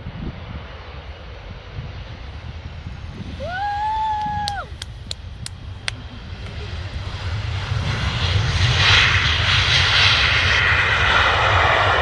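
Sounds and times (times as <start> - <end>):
airplane engine roar: 0.0 - 12.0.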